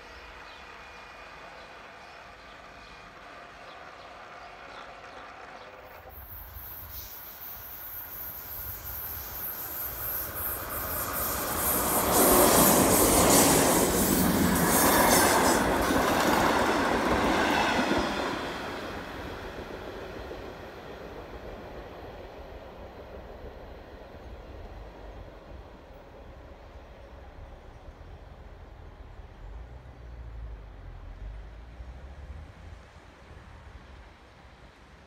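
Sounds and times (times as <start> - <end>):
passenger train passing: 0.0 - 35.0.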